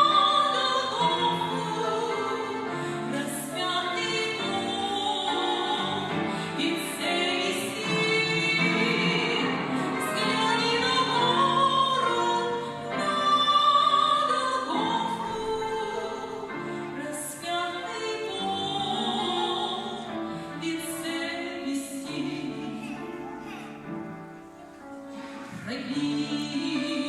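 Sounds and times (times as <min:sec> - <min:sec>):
operatic singing: 0:00.0 - 0:23.5, 0:25.4 - 0:27.0.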